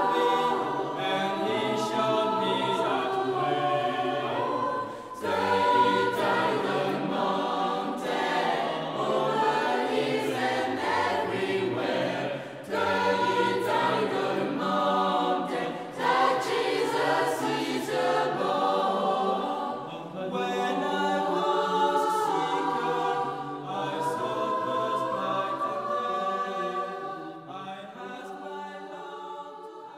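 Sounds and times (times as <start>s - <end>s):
choir singing held notes: 0.0s - 29.9s.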